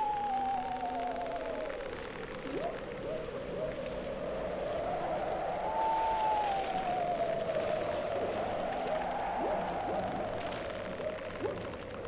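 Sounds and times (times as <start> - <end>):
wavering theremin tone: 0.0 - 11.4.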